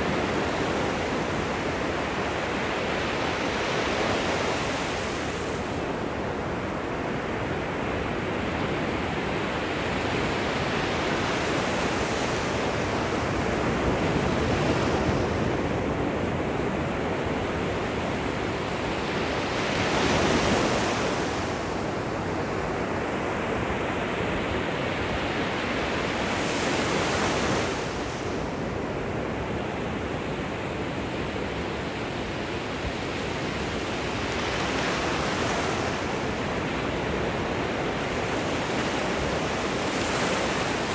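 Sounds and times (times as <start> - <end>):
small waves breaking on beach: 0.0 - 40.9.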